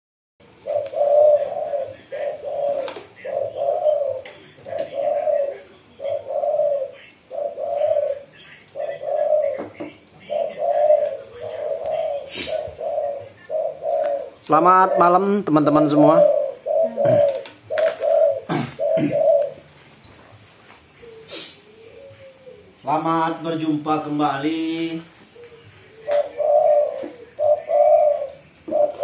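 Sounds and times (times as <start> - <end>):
dove cooing: 0.4 - 29.0.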